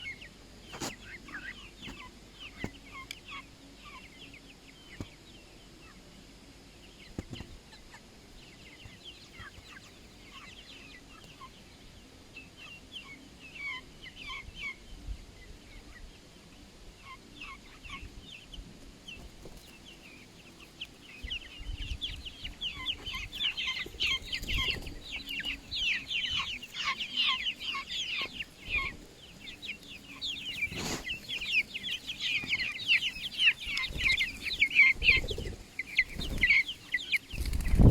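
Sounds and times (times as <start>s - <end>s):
chickens chirping: 0.0s - 37.9s.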